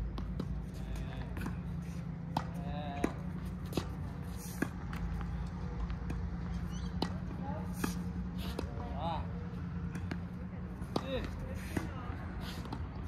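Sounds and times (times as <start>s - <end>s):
tennis ball hit with racquets: 0.0s - 13.0s.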